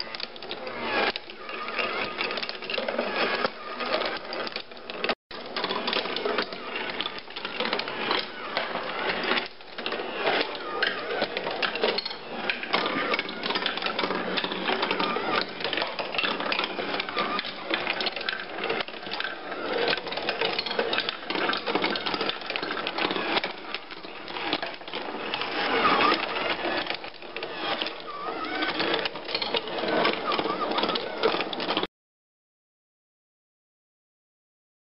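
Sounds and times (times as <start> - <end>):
marbles rolling on wooden tracks: 0.0 - 31.9.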